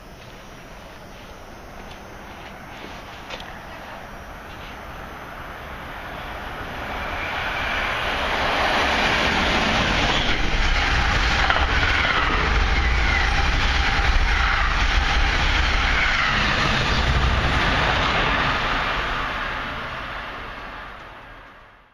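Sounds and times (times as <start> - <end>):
passenger train passing: 0.0 - 21.9.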